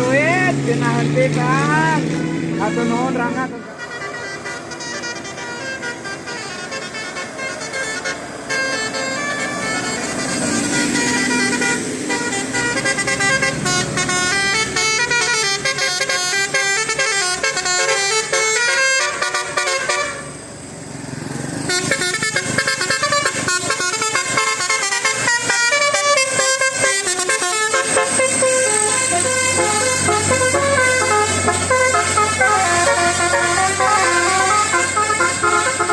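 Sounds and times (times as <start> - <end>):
musical bus horn melody: 1.5 - 20.4, 21.6 - 35.9.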